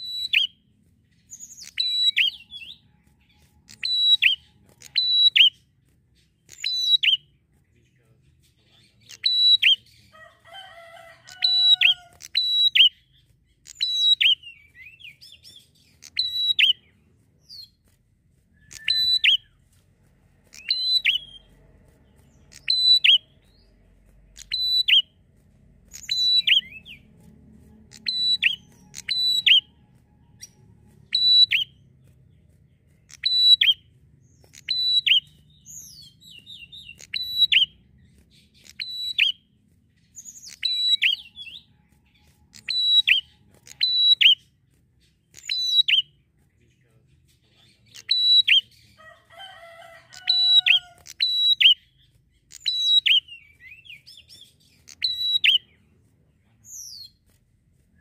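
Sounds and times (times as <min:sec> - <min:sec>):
bird chirping high phrases: 0:00.0 - 0:57.4.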